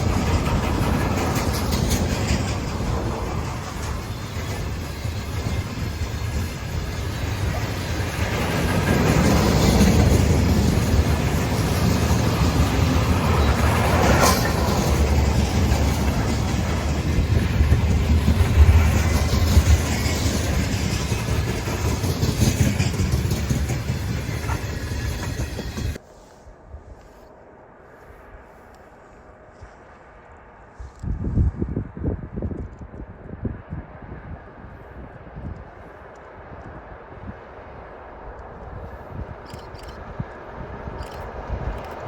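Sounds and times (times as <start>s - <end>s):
freight train rumbling past: 0.0s - 26.1s, 27.6s - 42.0s.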